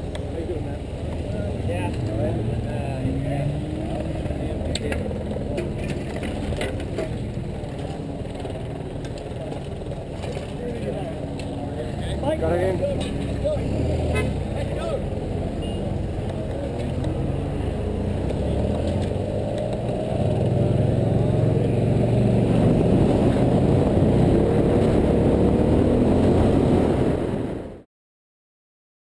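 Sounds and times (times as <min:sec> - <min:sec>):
motorcycle engine accelerating: 0:00.0 - 0:27.8.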